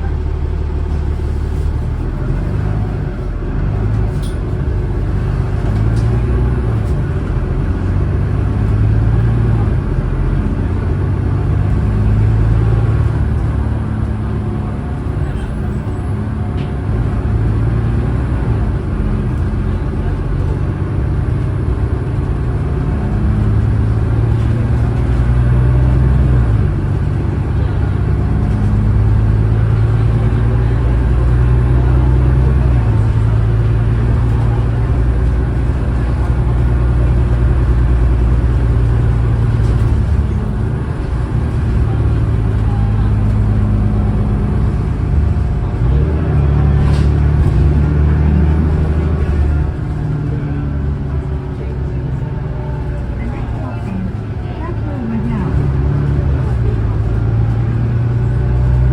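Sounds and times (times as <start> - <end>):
diesel bus engine changing gear: 0.0 - 58.9.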